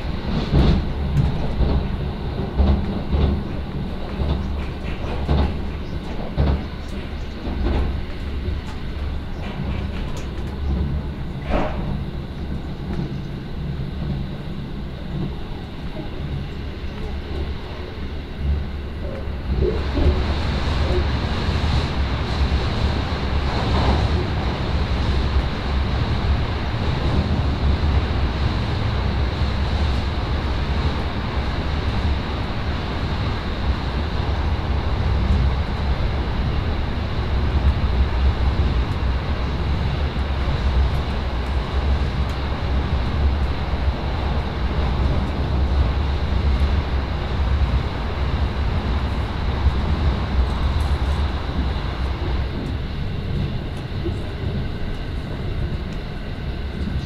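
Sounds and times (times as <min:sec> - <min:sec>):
train rumbling over bridge: 0:00.0 - 0:57.0.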